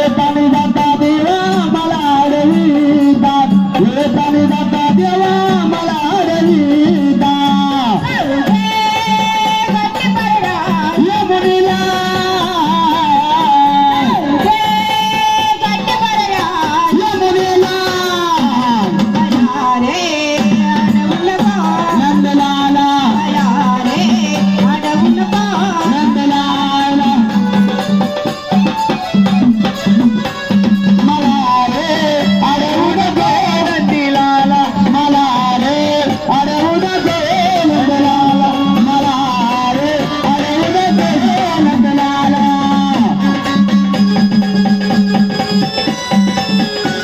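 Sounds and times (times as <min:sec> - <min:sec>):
steady drum beat: 0:00.0 - 0:47.0.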